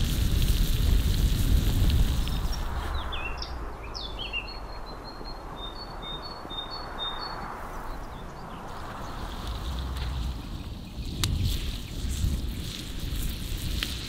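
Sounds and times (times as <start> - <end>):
steady outdoor hiss: 0.0 - 14.0
small birds chirping: 1.9 - 14.0.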